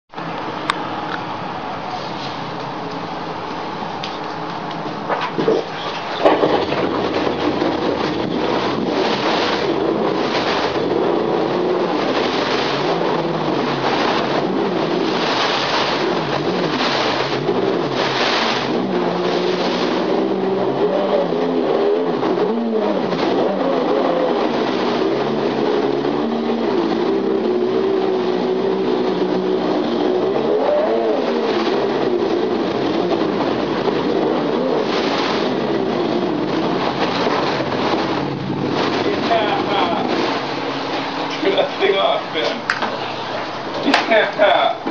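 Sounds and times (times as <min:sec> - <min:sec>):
jet ski engine revving: 0:00.1 - 0:44.9
water churning into spray: 0:00.1 - 0:44.9.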